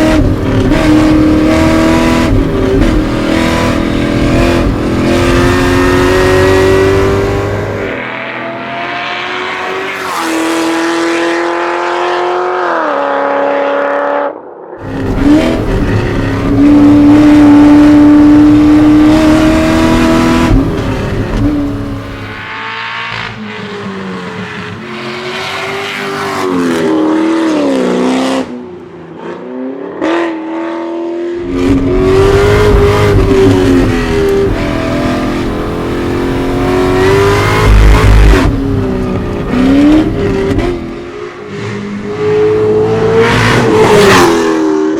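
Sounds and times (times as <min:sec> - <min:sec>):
car engine accelerating hard: 0:00.0 - 0:28.5, 0:29.8 - 0:44.9.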